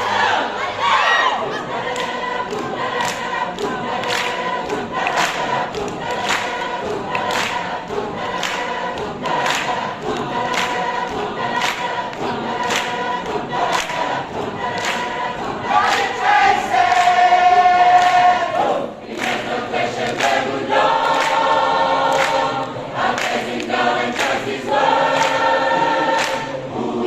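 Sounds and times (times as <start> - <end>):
choir singing: 0.0 - 27.0.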